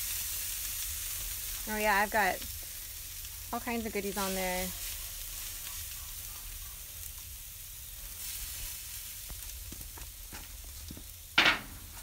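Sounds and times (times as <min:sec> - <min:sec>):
burger patties sizzling: 0:00.0 - 0:12.0.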